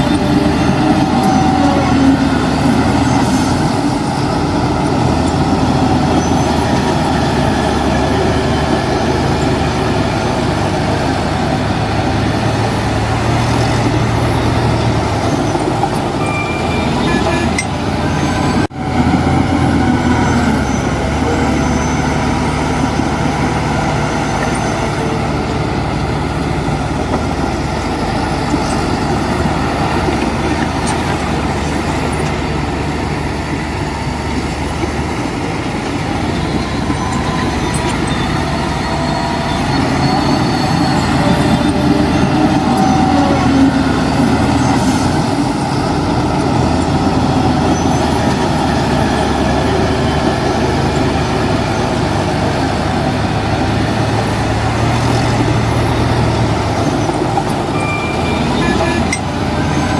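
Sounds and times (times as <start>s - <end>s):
heavy diesel engines working: 0.0s - 59.9s.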